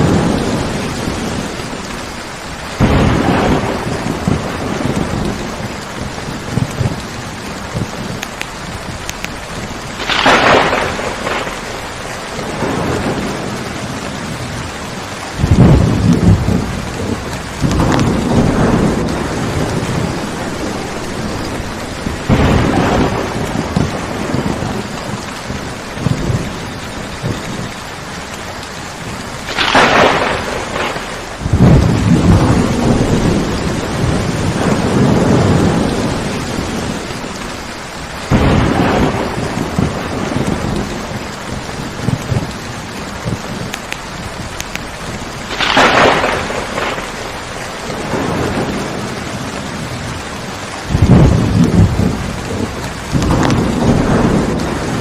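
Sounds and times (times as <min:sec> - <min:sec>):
heavy rain: 0:00.0 - 0:55.0
thunder rolling: 0:00.0 - 0:55.0.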